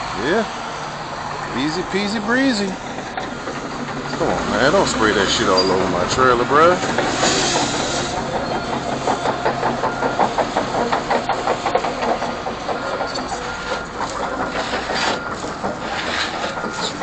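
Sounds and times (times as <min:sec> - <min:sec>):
diesel engine clattering: 0:00.0 - 0:17.0.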